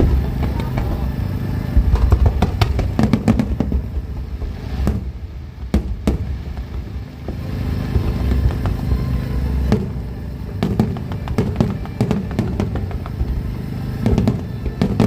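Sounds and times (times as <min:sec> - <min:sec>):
fireworks cracks and bangs: 0:00.0 - 0:15.0
steady low rumble: 0:00.0 - 0:15.0.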